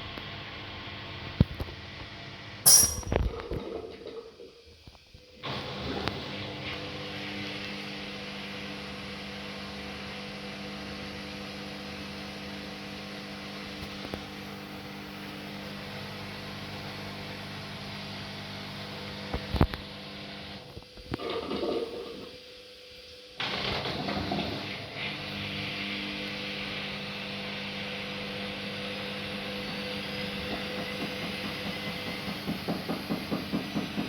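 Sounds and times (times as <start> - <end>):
washing machine motor hum: 5.3 - 34.0.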